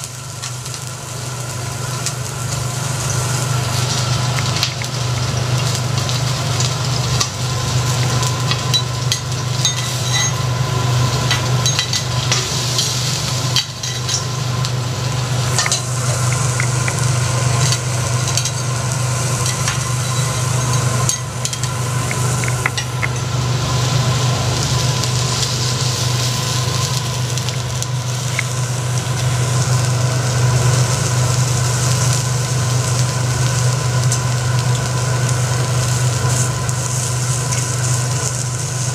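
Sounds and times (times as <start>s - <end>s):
prawns sizzling on griddle: 0.0s - 38.9s
steady low hum: 0.0s - 38.9s.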